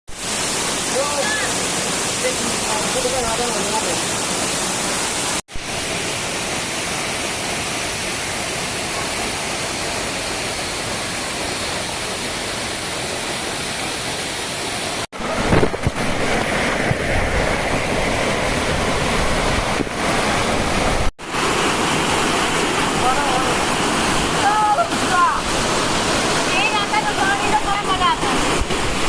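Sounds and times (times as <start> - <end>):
waterfall rushing: 0.1 - 29.0.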